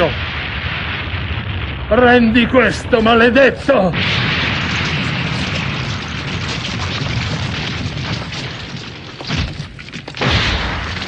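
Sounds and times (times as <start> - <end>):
low rumbling boom: 0.0 - 11.0.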